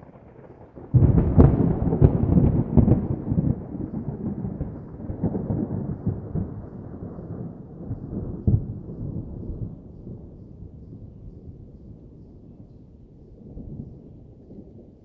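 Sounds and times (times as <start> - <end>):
thunder clap and rumble: 0.0 - 15.0.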